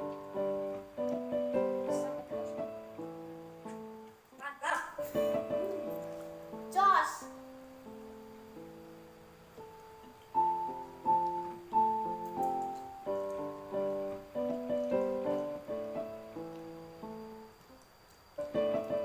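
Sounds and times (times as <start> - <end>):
piano music: 0.0 - 4.2, 5.0 - 17.7, 18.4 - 19.0.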